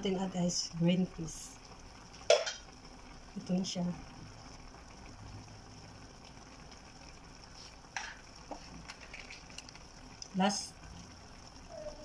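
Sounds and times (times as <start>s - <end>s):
stew sizzling in a frying pan: 0.0s - 12.0s.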